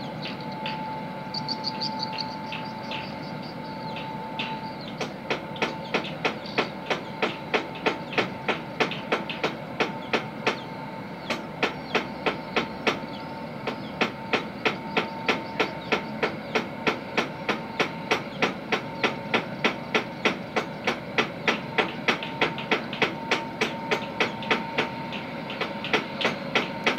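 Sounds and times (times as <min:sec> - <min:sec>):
machinery knocking rhythmically: 0:00.2 - 0:26.9.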